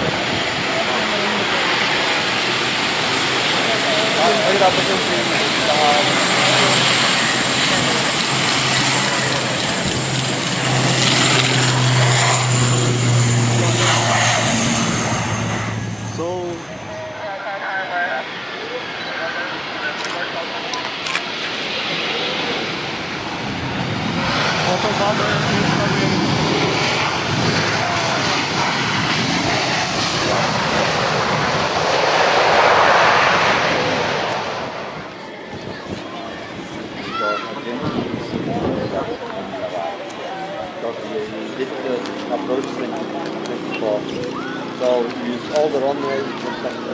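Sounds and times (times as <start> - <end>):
airliner engines running: 0.0 - 46.9.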